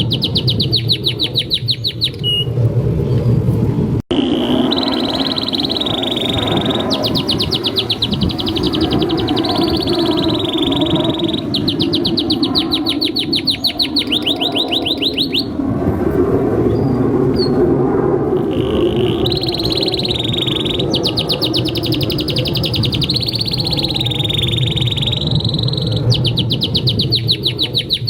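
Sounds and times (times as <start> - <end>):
canary singing trills: 0.0 - 2.6, 4.1 - 15.6, 18.4 - 28.0.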